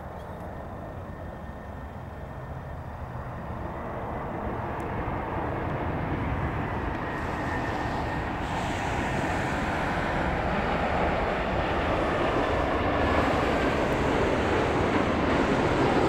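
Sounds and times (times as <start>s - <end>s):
faint steady whine: 0.0s - 16.0s
jet airliner engine noise: 0.0s - 16.0s.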